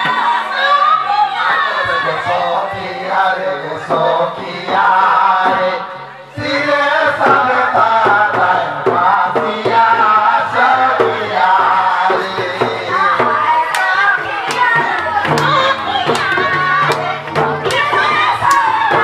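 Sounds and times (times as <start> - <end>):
men singing through microphones: 0.0 - 19.0
drum beat: 1.7 - 19.0.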